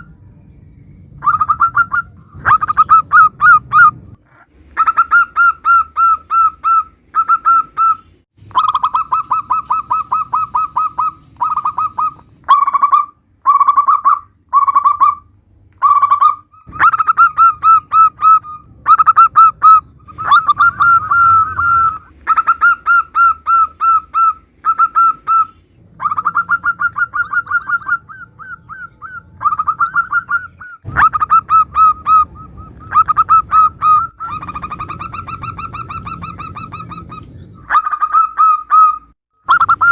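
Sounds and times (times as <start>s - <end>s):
doves cooing: 1.2s - 39.9s.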